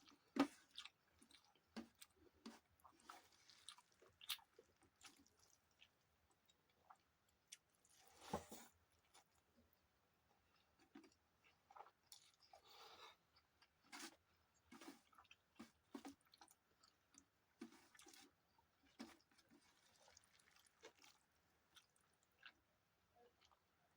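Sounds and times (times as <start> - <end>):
person chewing soft food: 0.0 - 23.7.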